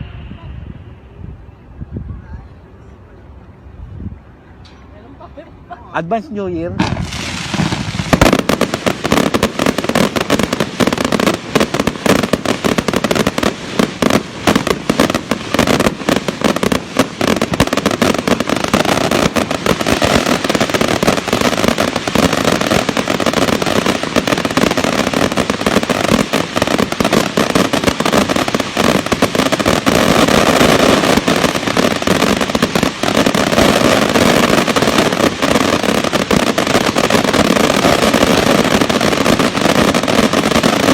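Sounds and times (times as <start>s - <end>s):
firecrackers banging and crackling: 6.8s - 40.9s.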